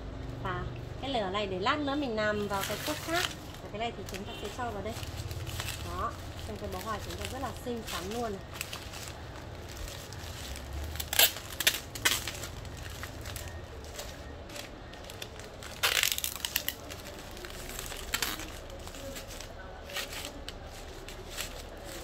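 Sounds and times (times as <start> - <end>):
wrapping paper crinkling: 2.4 - 22.0.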